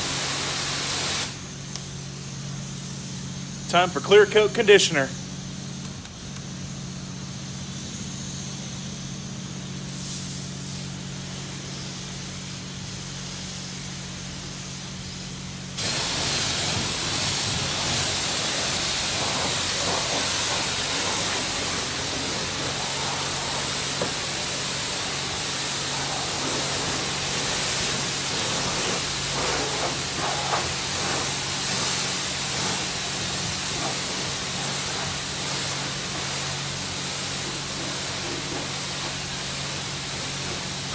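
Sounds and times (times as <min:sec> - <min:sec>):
spray wand hissing: 0:00.0 - 0:03.8, 0:04.4 - 0:40.9
car wash machine hum: 0:00.0 - 0:40.9.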